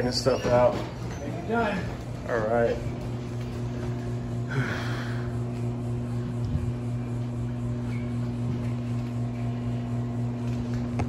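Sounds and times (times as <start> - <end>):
low electrical hum of machinery: 0.0 - 11.0.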